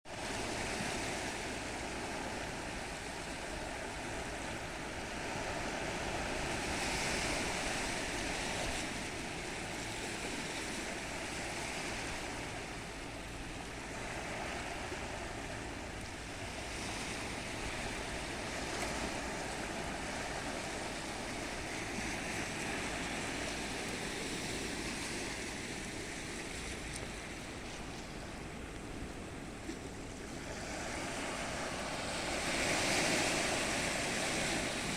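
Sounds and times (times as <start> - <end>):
waves breaking on shore: 0.1 - 34.9.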